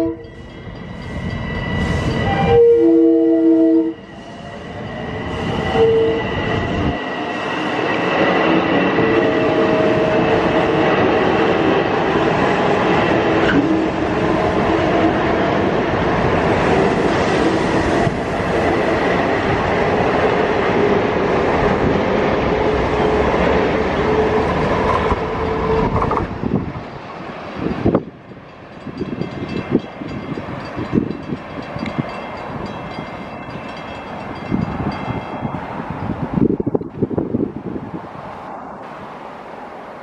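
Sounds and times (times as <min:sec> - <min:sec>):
train passing at speed: 0:00.0 - 0:40.0.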